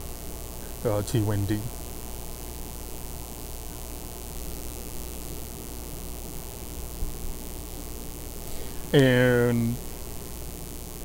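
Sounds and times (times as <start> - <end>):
even hiss: 0.0 - 7.6, 8.2 - 11.0
low electrical hum: 0.0 - 11.0.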